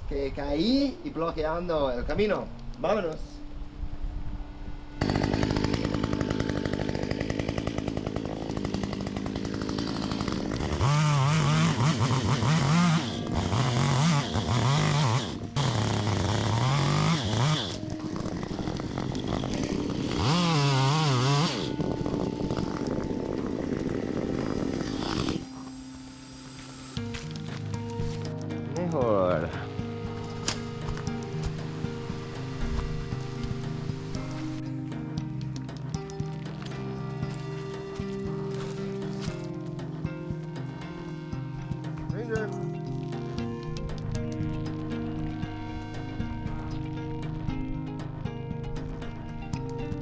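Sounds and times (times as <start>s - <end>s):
chainsaw revving: 5.0s - 50.0s.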